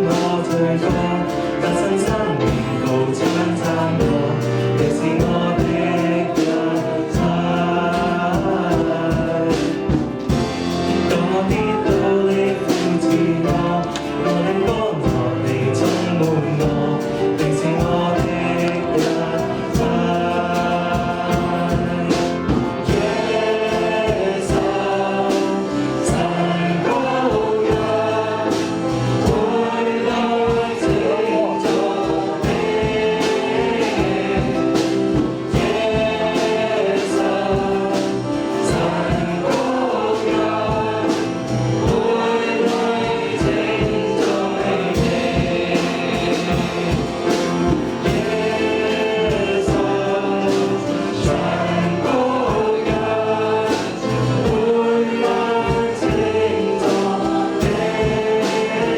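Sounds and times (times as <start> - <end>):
band accompaniment: 0.0 - 58.9
group singing worship song: 0.0 - 58.9
steady drum beat: 0.0 - 58.9.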